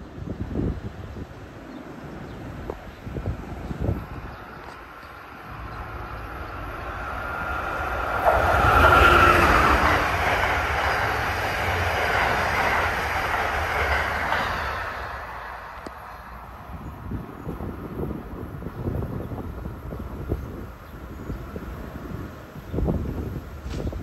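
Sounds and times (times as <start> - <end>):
train wheels rushing on rail: 0.0 - 24.0.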